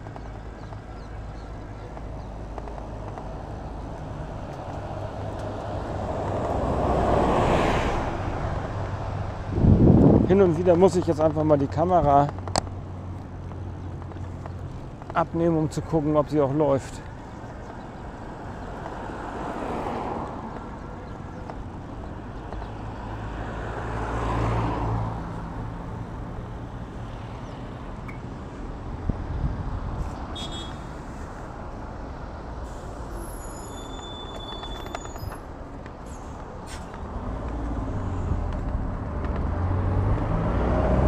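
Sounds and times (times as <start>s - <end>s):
motor vehicles passing: 0.0s - 41.0s
steady rushing traffic noise: 0.0s - 41.0s.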